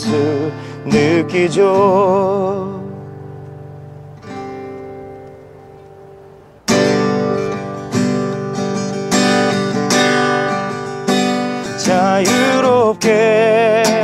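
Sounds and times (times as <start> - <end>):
held guitar chord: 0.0 - 14.0
strummed acoustic guitar chords: 0.0 - 14.0.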